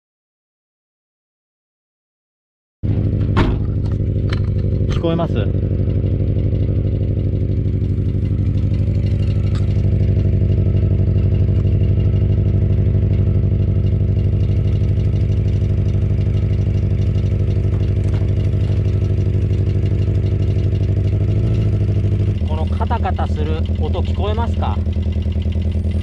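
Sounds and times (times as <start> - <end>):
car engine idling with rattle: 2.8 - 26.0.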